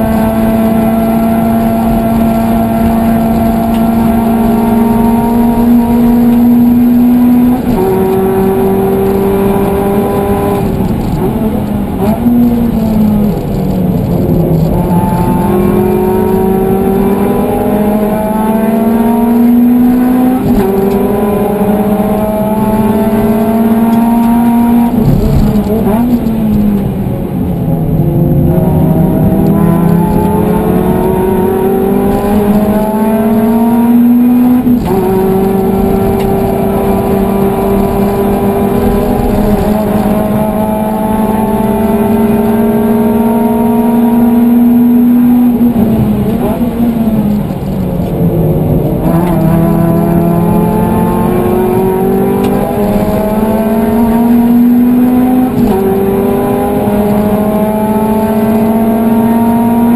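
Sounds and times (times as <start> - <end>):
car engine revving under throttle: 0.0 - 59.9.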